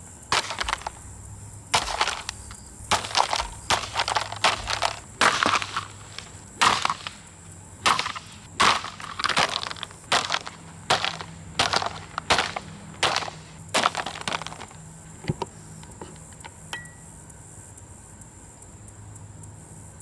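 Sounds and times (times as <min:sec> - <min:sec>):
heavy crunching blows on plastic fan: 0:00.0 - 0:16.8
breaking pieces clattering: 0:00.3 - 0:16.5.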